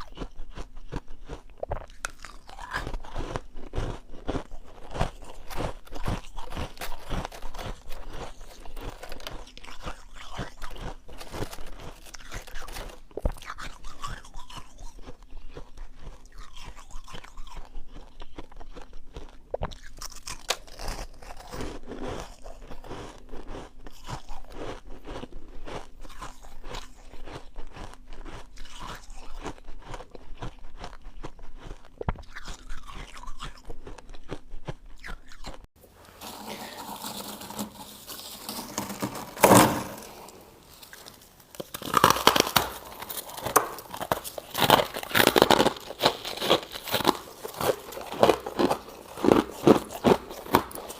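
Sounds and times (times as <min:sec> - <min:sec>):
frost being chewed: 0:00.0 - 0:50.9.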